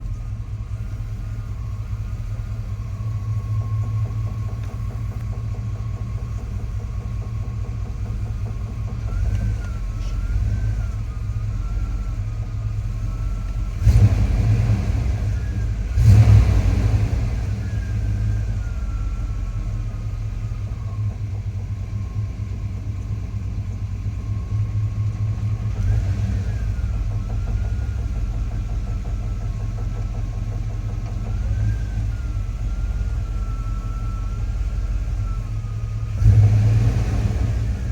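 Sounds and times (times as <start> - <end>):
pickup engine idling with knock: 0.0 - 37.9.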